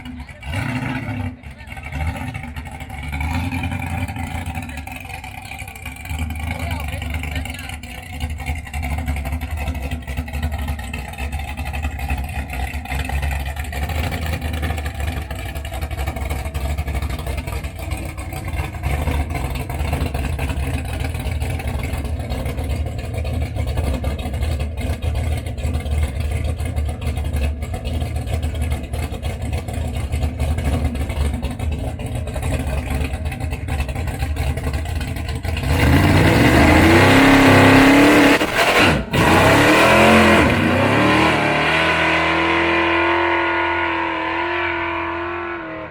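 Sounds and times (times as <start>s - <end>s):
vehicle engine running and revving: 0.0s - 45.9s.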